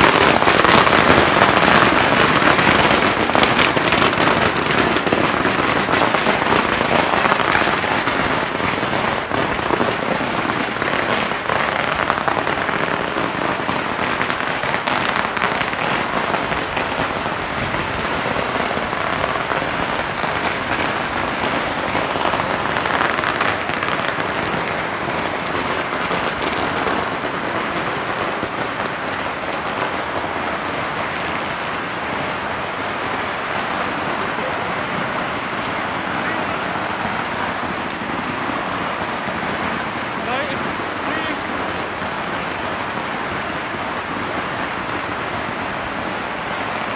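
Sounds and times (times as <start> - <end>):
firecrackers cracking and popping: 0.0 - 46.9.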